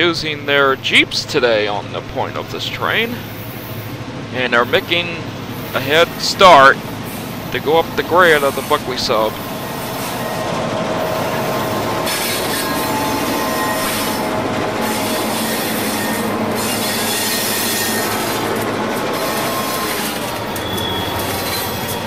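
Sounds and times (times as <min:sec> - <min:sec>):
model train wheels rolling: 0:02.6 - 0:22.0.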